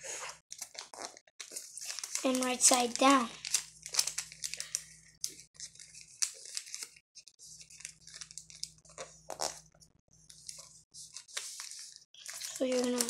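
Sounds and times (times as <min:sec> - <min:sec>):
paper rustling and crinkling: 0:00.1 - 0:09.7, 0:10.3 - 0:13.0.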